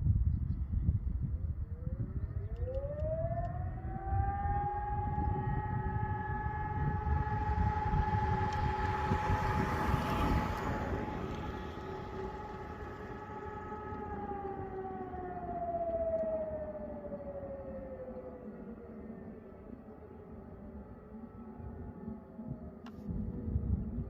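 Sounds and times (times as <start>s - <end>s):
fainter lower siren tone: 0.3s - 24.0s
civil defence sirens test tone: 1.3s - 24.0s.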